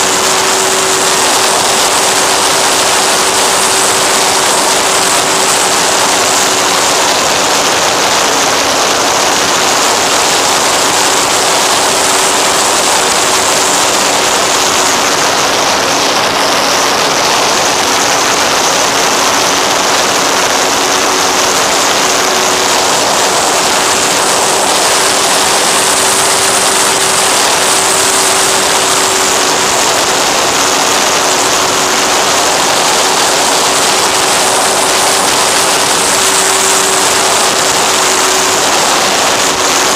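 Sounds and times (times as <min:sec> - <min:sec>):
electric motor and propeller drone: 0:00.0 - 0:39.9
wind rushing over camera: 0:00.0 - 0:39.9.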